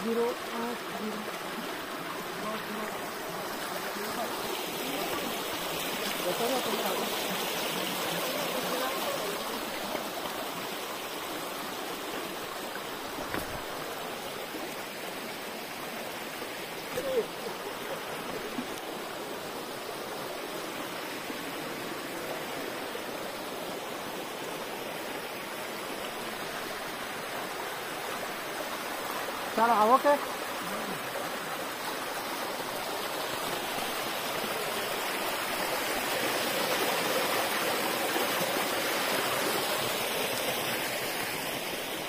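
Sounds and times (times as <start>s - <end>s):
stream cascading over rocks: 0.0s - 42.0s.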